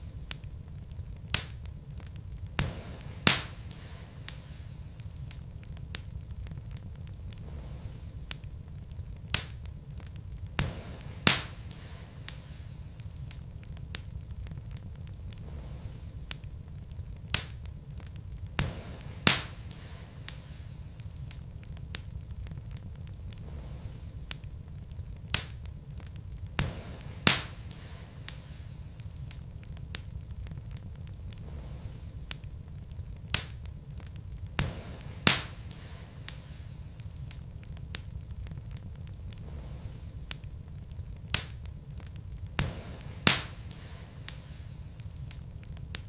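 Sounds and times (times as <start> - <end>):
low rumble of fire: 0.0 - 46.0
wood crackling and popping: 0.0 - 46.0.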